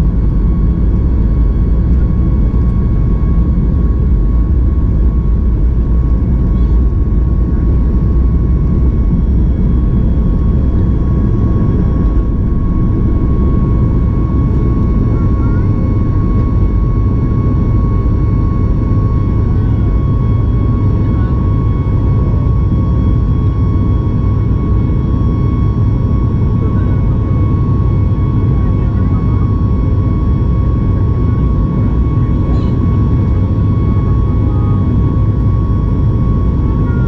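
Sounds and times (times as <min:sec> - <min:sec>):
high engine whine: 0:00.0 - 0:37.0
jet engine rumble in cabin: 0:00.0 - 0:37.0.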